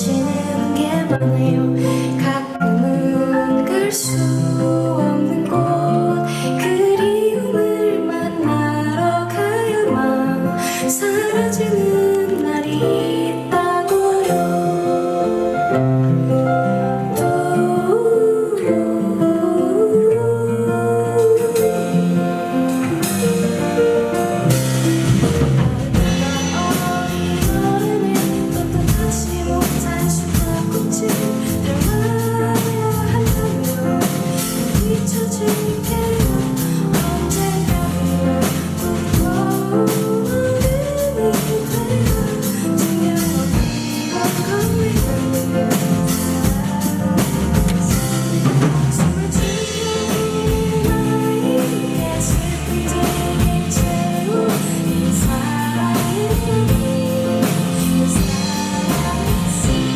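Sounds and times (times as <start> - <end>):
person singing a melody: 0.0 - 25.0, 25.9 - 59.9
drums: 0.0 - 59.9
guitar playing: 0.0 - 59.9.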